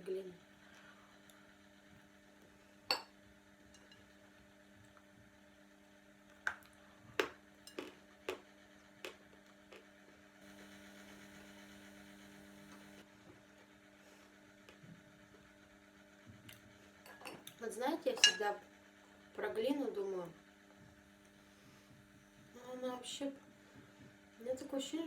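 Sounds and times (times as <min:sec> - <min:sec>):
low mains hum: 0:00.0 - 0:25.0.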